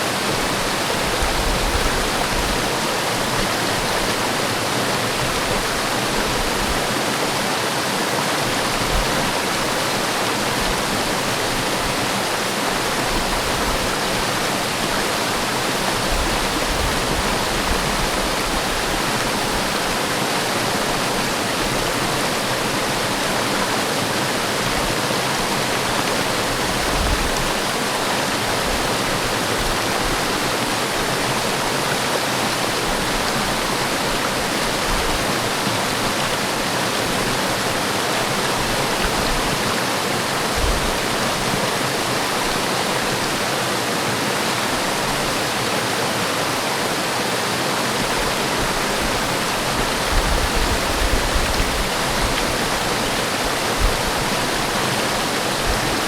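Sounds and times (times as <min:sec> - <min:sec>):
waterfall splashing: 0:00.0 - 0:56.0.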